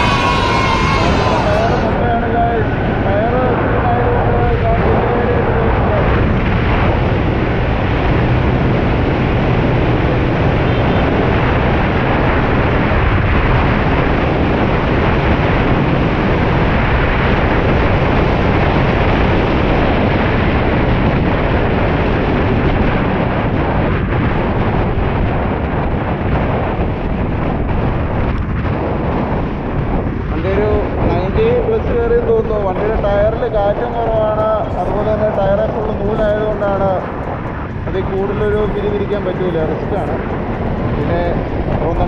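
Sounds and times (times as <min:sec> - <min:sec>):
road noise: 0:00.0 - 0:42.0
wind buffeting microphone: 0:00.0 - 0:42.0.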